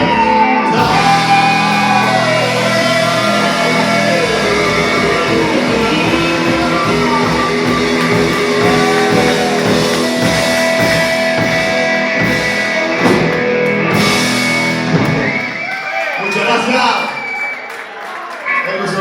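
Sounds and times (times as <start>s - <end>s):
electric guitar gliding notes: 0.0s - 15.7s
drum kit: 0.0s - 16.0s.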